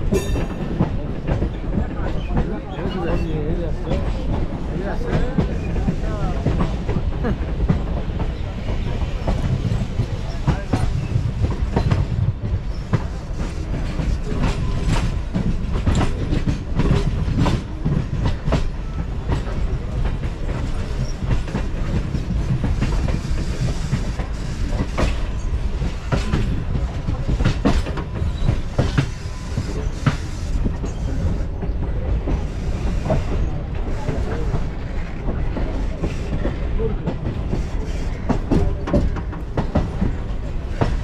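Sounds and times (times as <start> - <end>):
train rumble inside coach: 0.0 - 41.0
wheels clacking over rail joints: 0.0 - 41.0.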